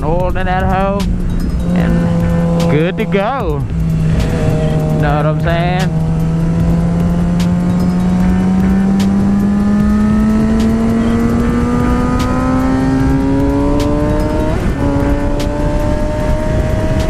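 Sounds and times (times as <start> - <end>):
motorcycle engine accelerating: 0.0 - 17.0
wind noise: 0.0 - 17.0.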